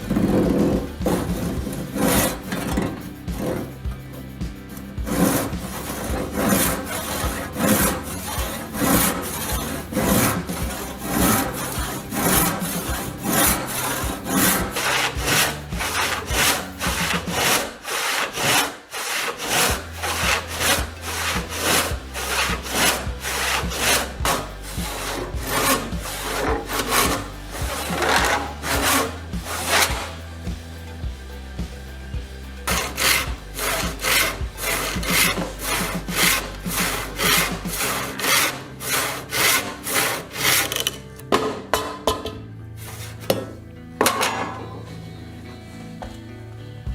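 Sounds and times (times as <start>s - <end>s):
hand saw cutting wood: 0.0s - 31.0s, 32.6s - 42.0s, 42.8s - 44.5s.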